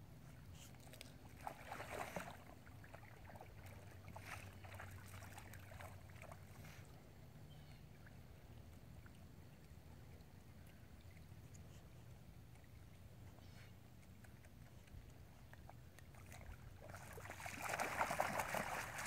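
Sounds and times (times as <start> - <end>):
water splashing and sloshing: 0.0 - 7.4, 8.0 - 19.0.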